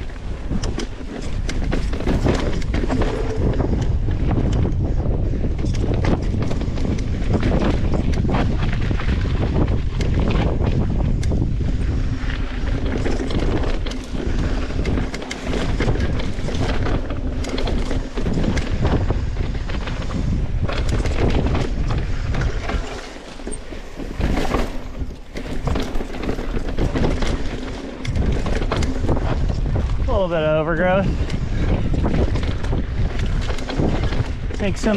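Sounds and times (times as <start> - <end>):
bike rattling and knocking: 0.0 - 34.9
bike tyres rolling on dirt: 0.0 - 34.9
wind on microphone: 0.0 - 34.9.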